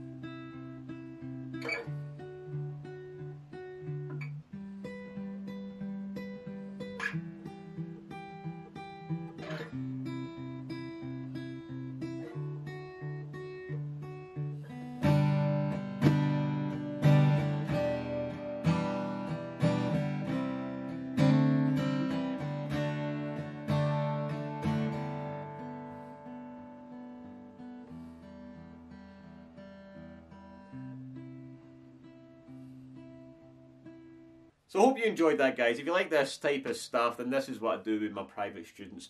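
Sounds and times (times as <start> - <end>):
acoustic guitar chords: 0.0 - 38.8.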